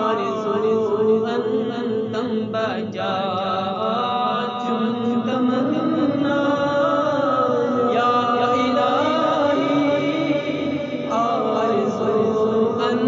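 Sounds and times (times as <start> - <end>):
person chanting devotional recitation: 0.0 - 13.0.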